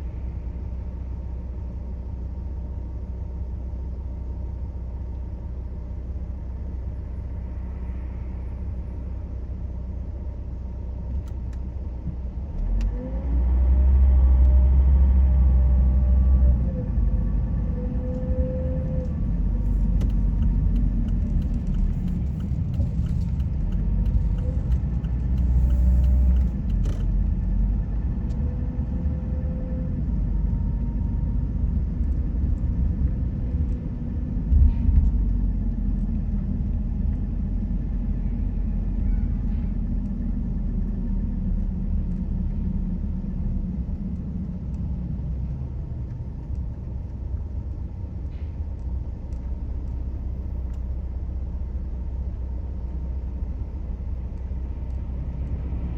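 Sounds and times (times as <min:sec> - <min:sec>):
car driving on road: 0:00.0 - 0:55.9.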